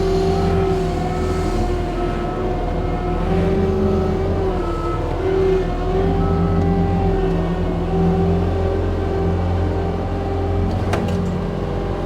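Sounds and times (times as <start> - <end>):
whining hydraulic mulcher: 0.0 - 10.9
diesel engine drone: 0.0 - 12.0.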